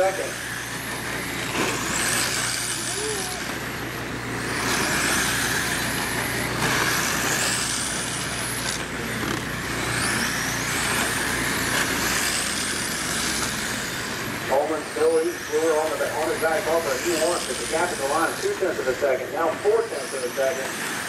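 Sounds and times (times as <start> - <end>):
rc car motors whining: 0.0 - 21.0
tyre and track noise: 0.0 - 21.0.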